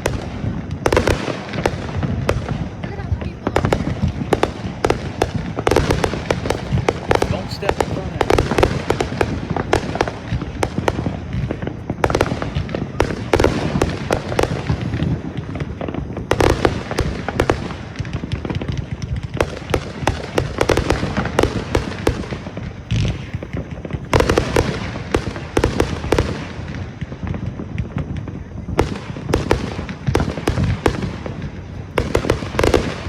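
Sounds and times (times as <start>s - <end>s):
fireworks cracks and bangs: 0.0s - 33.0s
low rumble of fireworks launches: 0.0s - 33.0s.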